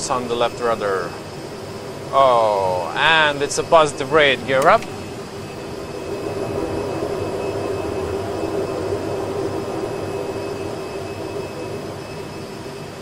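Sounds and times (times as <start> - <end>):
jet engine hum and rush: 0.0 - 13.0.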